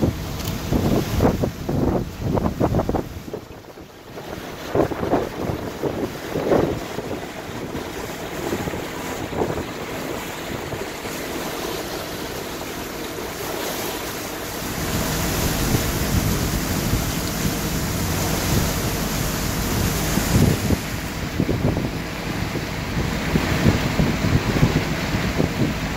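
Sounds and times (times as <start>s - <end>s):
boat engine hum: 0.0s - 25.9s
water rushing past hull: 0.0s - 25.9s
wind buffeting microphone: 0.0s - 25.9s.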